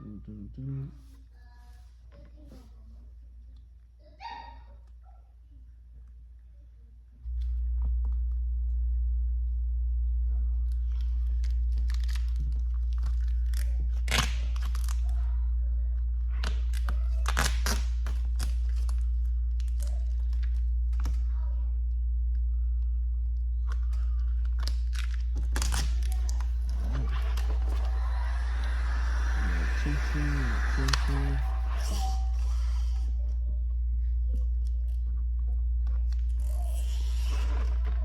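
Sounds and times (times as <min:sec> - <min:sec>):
steady low hum: 0:05.0 - 0:38.0.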